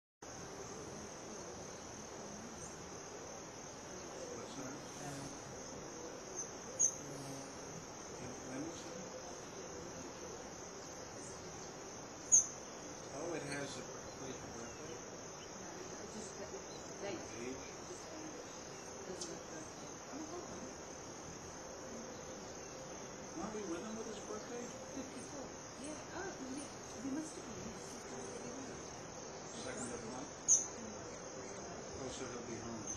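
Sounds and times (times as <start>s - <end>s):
insect chorus trilling: 0.2s - 32.9s.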